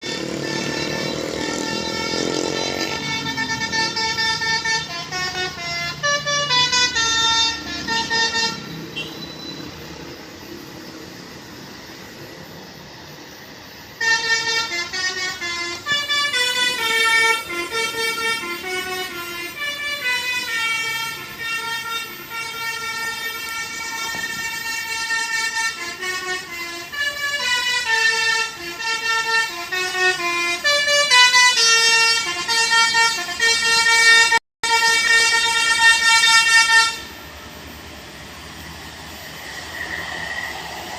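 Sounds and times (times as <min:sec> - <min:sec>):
bus air horn playing a melody: 0:00.0 - 0:09.6, 0:14.0 - 0:37.3.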